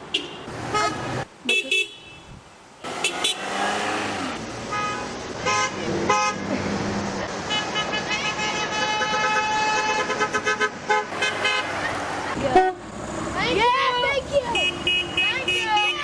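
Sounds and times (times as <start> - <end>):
car horns honking: 0.0 - 6.5, 7.4 - 12.9, 14.4 - 16.0
passing traffic: 0.0 - 16.0.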